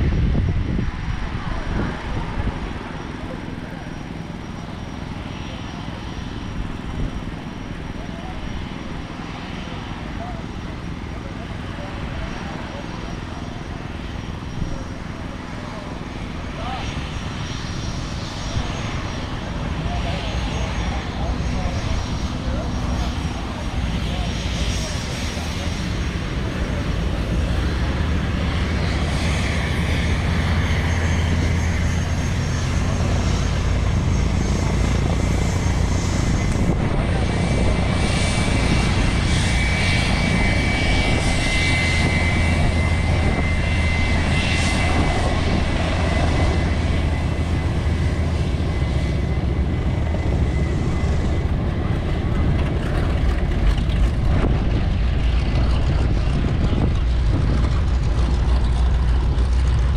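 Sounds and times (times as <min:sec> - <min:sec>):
propeller aircraft engines droning: 0:00.0 - 0:59.9.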